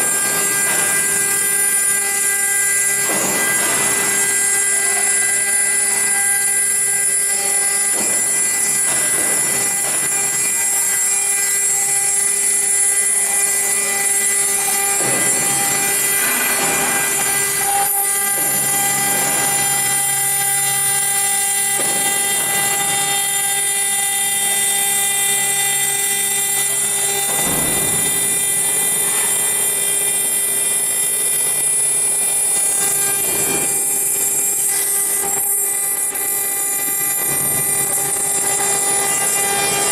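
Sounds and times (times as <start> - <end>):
cutter grinding stone: 0.0 - 39.9
router spindle whine: 0.0 - 39.9.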